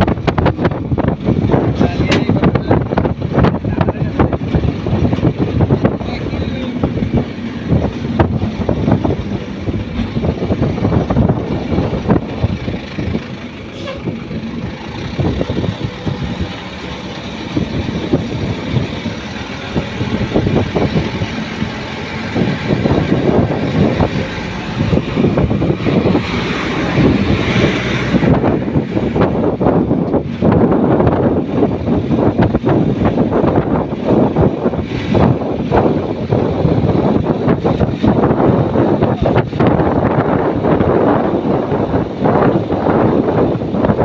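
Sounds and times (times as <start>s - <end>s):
truck going by: 0.0s - 44.0s
wind buffeting microphone: 0.0s - 44.0s.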